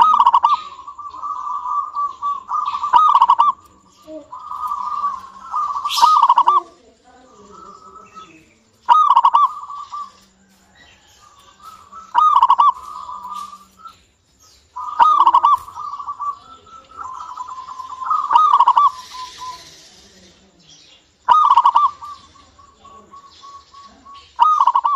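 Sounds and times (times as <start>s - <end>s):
dove cooing: 0.0s - 14.0s, 14.7s - 20.6s, 21.3s - 24.9s.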